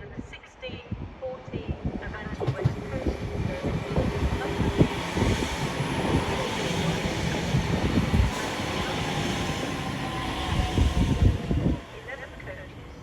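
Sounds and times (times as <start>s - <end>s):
train wheels rumbling on rail: 0.9s - 13.0s.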